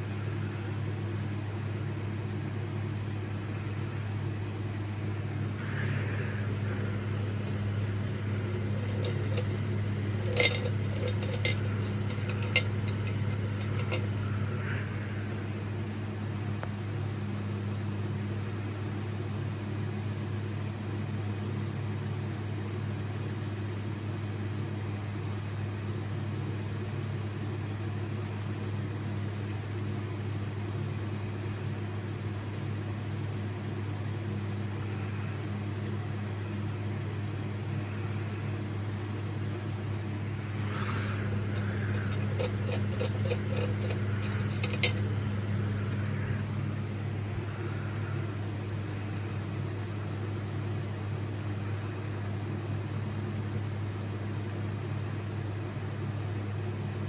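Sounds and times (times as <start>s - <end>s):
ceiling fan motor hum: 0.0s - 57.0s.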